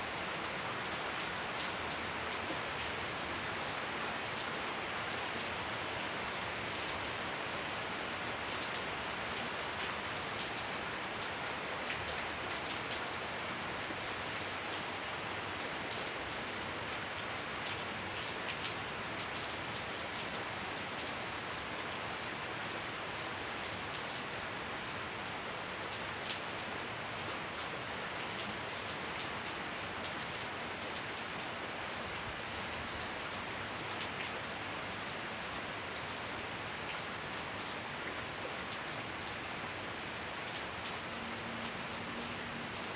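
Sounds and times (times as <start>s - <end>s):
rain on concrete and plants: 0.0s - 42.9s.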